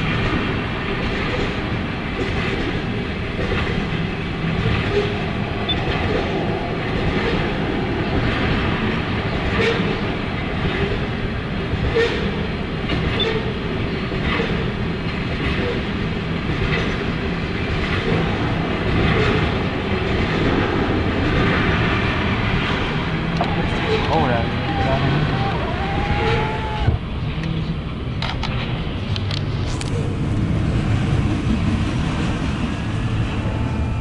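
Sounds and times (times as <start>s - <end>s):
wheels clicking over rail joints: 0.0s - 27.6s
freight train rumbling: 0.0s - 34.0s.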